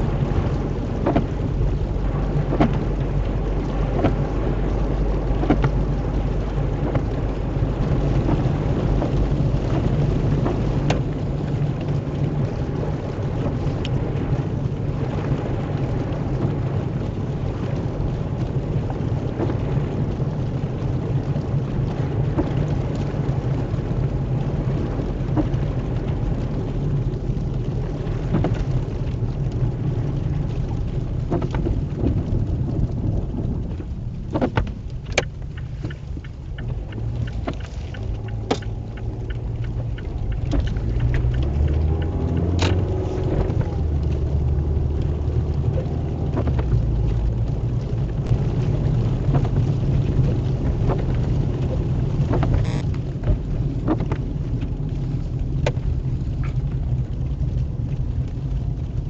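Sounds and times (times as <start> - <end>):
deeper rumble: 0.0 - 16.4, 24.4 - 59.0
rain and snow ticking on vehicle: 0.0 - 59.0
steady low rumble: 0.0 - 59.0.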